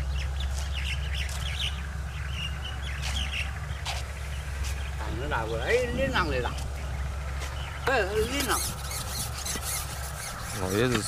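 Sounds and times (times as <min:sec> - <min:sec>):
steady low rumble: 0:00.0 - 0:10.9
small birds chirping: 0:00.0 - 0:11.0.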